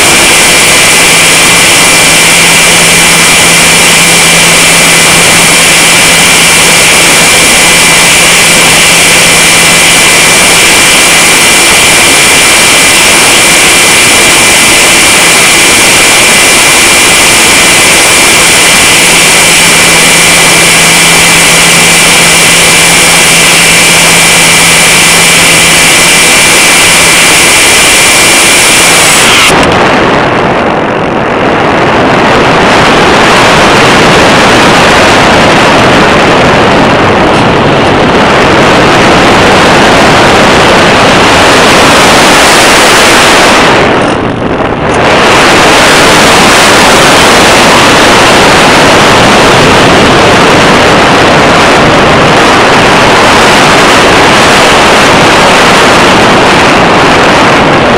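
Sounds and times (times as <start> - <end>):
electric motor and propeller whine: 0.0 - 57.9
wind rush over microphone: 0.0 - 57.9.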